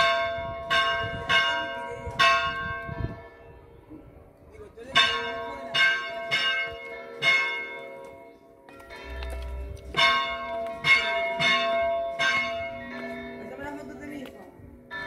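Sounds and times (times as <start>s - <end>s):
bells clanging: 0.0s - 3.6s, 4.8s - 14.3s.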